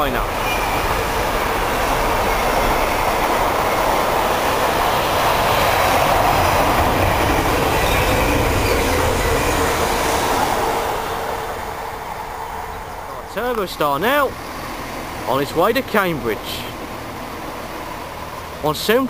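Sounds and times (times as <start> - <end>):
train wheels roaring on rail: 0.0 - 19.0.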